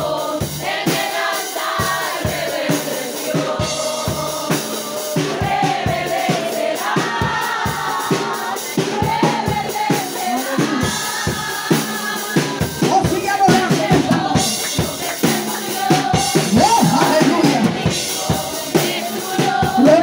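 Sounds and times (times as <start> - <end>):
congregation singing: 0.0 - 20.0
drums beating: 0.0 - 20.0.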